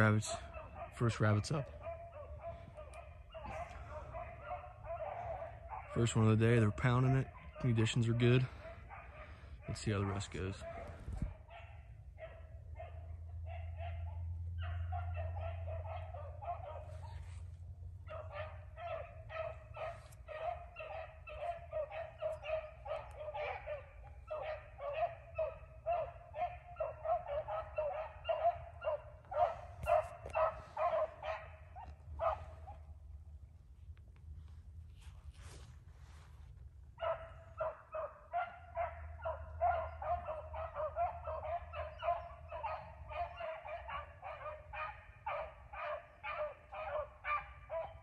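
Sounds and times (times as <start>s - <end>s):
dogs baying and yelping: 0.0s - 33.2s, 37.0s - 48.0s.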